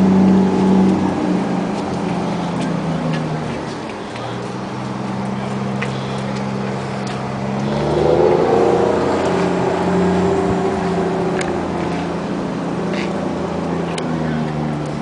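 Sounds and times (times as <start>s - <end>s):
higher hum: 0.0s - 14.8s
large engine humming: 0.0s - 15.0s.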